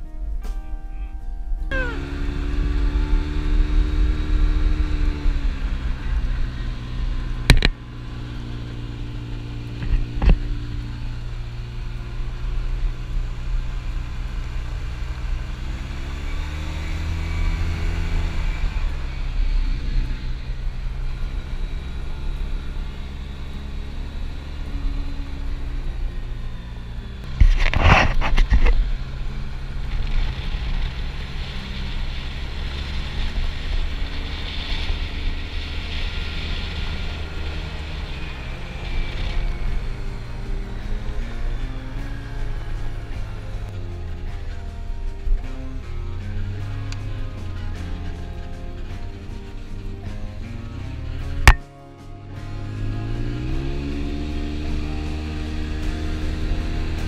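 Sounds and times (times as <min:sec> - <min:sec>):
off-road vehicle engine revving: 0:01.7 - 0:57.0.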